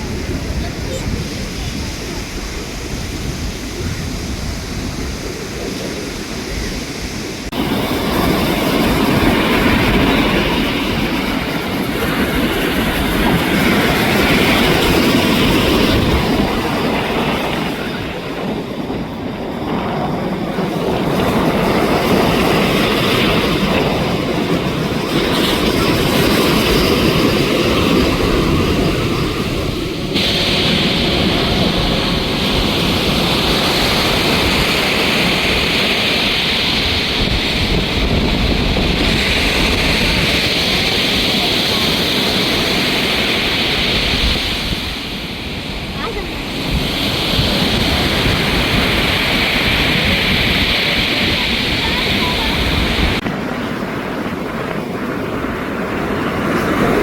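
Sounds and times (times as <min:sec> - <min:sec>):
jet engines rushing: 0:00.0 - 0:57.0
surf: 0:00.0 - 0:57.0
wind: 0:00.0 - 0:57.0.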